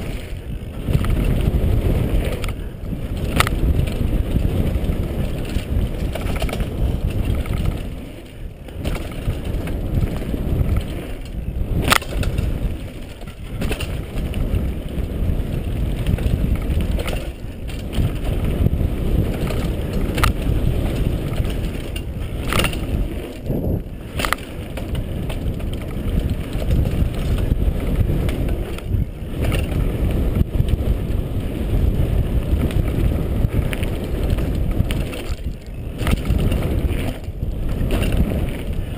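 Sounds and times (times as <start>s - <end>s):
bike clacking and rattling: 0.0s - 38.9s
low rumbling of bike ride: 0.0s - 38.9s.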